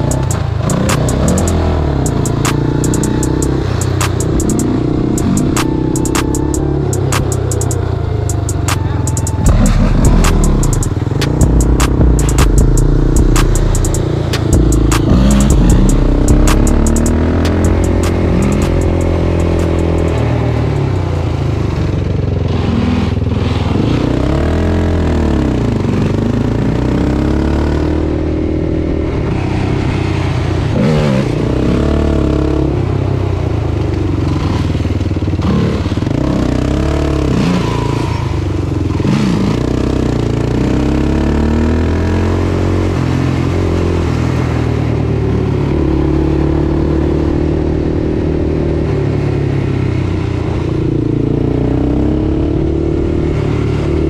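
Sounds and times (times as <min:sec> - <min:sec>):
engine drone: 0:00.0 - 0:54.0
quad engine revving: 0:00.0 - 0:54.0.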